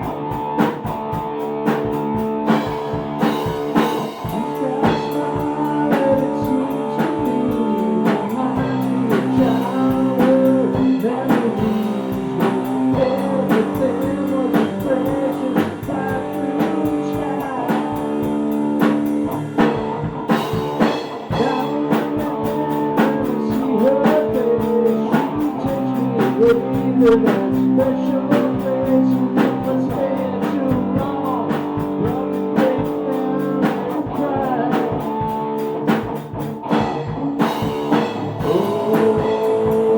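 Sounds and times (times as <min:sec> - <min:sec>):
drum kit beat: 0:00.0 - 0:39.9
electric guitar: 0:00.0 - 0:39.9.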